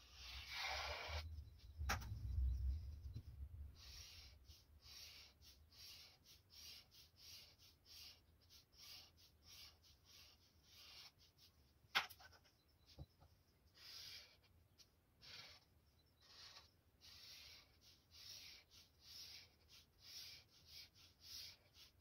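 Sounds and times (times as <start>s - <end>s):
marker scratching on paper: 0.0s - 2.4s, 3.0s - 22.0s.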